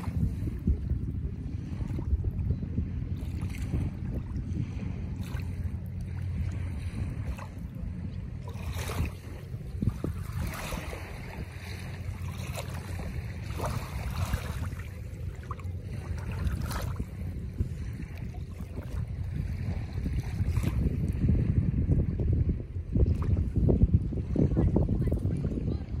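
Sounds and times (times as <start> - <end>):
gentle lapping water: 0.0 - 26.0
wind rumbling on microphone: 0.0 - 26.0.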